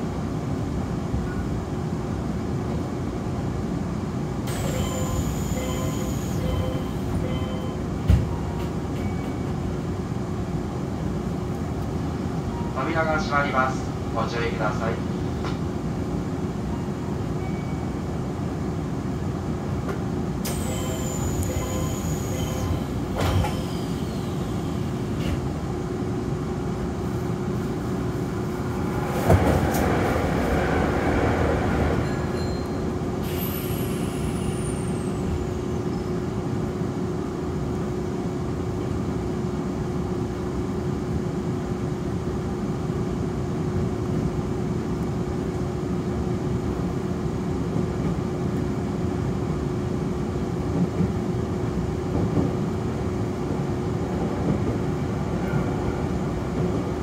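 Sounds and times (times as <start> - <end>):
train running noise: 2.5 - 57.0.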